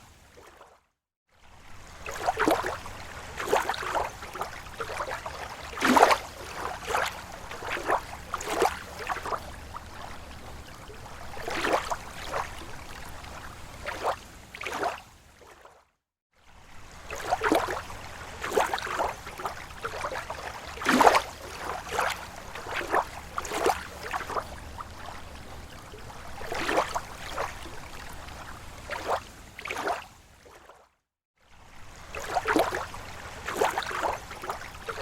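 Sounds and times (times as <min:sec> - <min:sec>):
small waves lapping on shore: 0:00.0 - 0:35.0.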